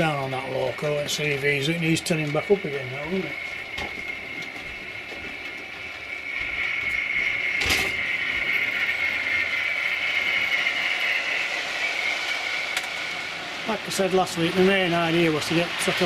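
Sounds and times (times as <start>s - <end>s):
model train whirring on track: 0.0s - 16.0s.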